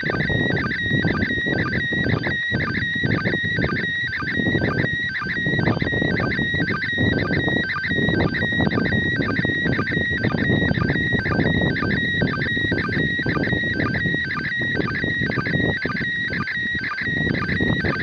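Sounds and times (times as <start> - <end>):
warbling data signal tones: 0.0 - 18.0.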